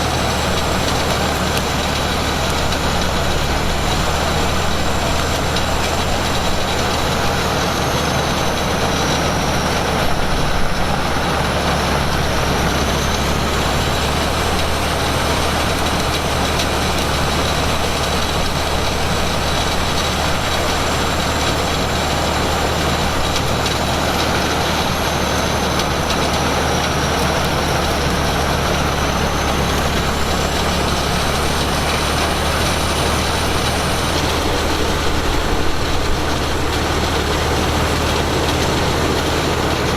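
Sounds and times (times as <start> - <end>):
heavy engine machinery running: 0.0 - 39.9.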